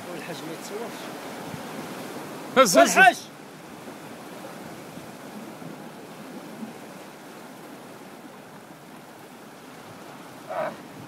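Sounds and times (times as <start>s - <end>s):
ocean surf breaking on shore: 0.0s - 11.0s.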